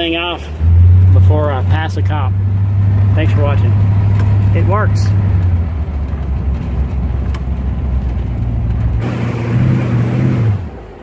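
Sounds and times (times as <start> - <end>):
car engine: 0.0 - 11.0
road noise: 0.0 - 11.0.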